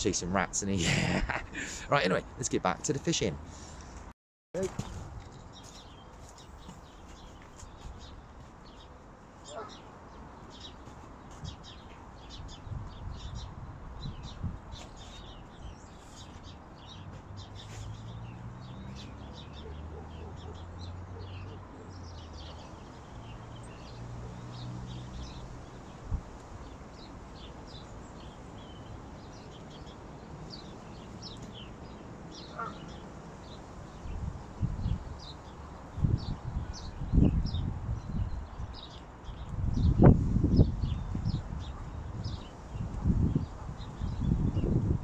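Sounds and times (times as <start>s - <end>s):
small birds chirping: 4.6s - 45.0s.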